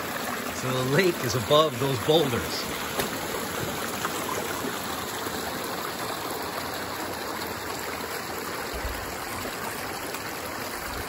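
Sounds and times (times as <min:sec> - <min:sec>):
creek rushing over boulders: 0:00.0 - 0:11.0.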